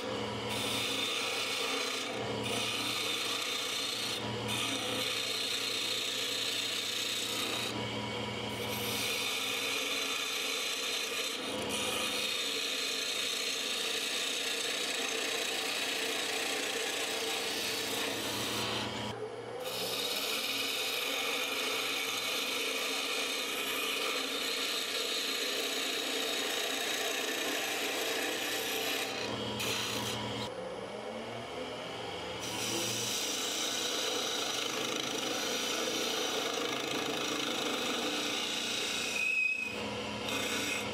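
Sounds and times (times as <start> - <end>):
lathe tool scraping wood: 0.0 - 30.5, 32.4 - 40.9
lathe hum: 0.0 - 40.9.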